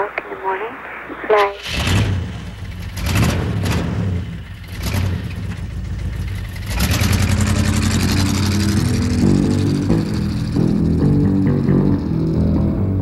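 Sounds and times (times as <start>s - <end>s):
street traffic rumble: 0.0s - 13.0s
low bass notes: 1.9s - 13.0s.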